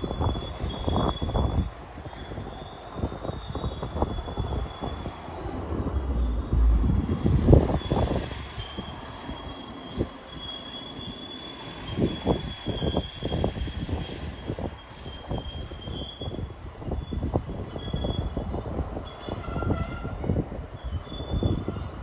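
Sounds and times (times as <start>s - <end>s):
train low rumble: 0.0s - 22.0s
train wheel squeal: 0.0s - 22.0s.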